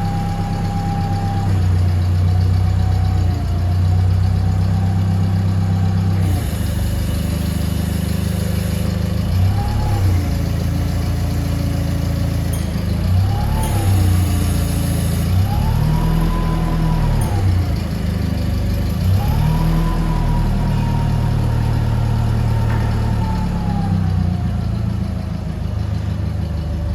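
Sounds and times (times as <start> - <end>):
forklift engine revving: 0.0 - 26.9.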